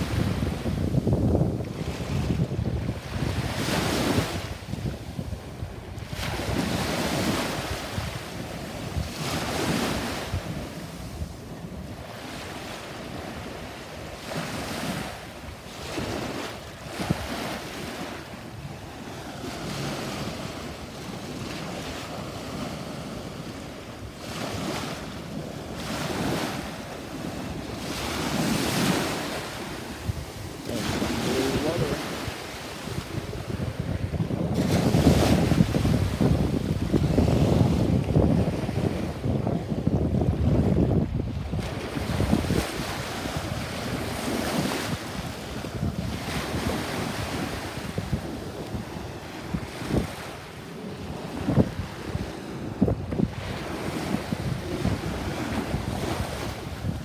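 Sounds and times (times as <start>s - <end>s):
waves washing up sandy shore: 0.0s - 57.0s
wind buffeting microphone: 0.0s - 57.0s.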